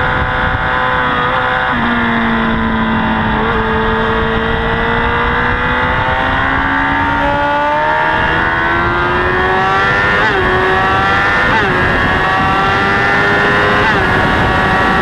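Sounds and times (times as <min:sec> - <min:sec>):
motorcycle engine accelerating: 0:00.0 - 0:15.0
wind rush: 0:00.0 - 0:15.0.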